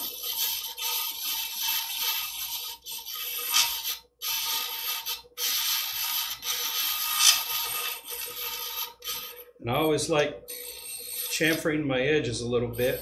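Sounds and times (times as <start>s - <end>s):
brick scraping on sharpening wheel: 0.0s - 11.6s, 12.8s - 13.0s.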